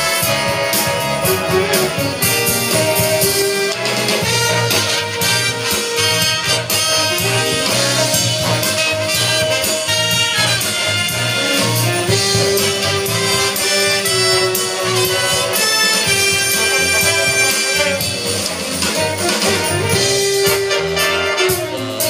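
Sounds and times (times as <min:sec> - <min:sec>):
jazz ensemble with brass: 0:00.0 - 0:22.0.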